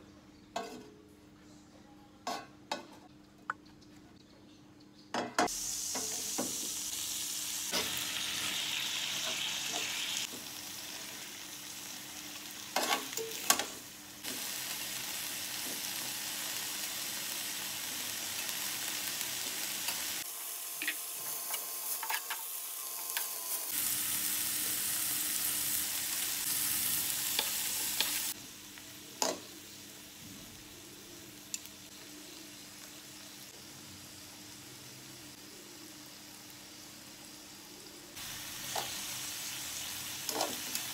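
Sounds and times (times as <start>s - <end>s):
food sizzling in a pan: 5.4s - 40.9s.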